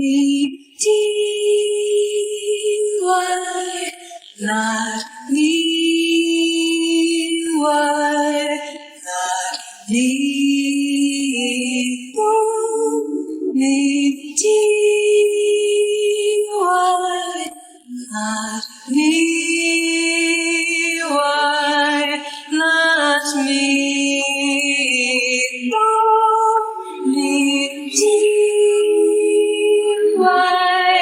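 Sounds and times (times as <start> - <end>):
female voices singing harmony: 0.0 - 31.0.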